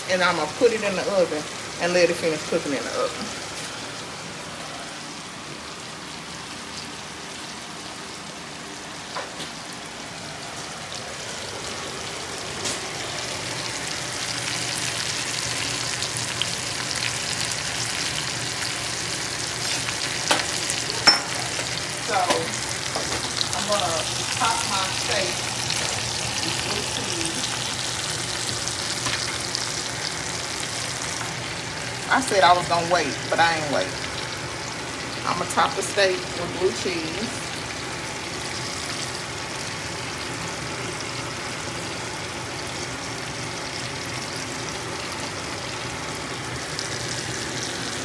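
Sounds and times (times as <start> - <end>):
food sizzling in a skillet: 0.0 - 48.0.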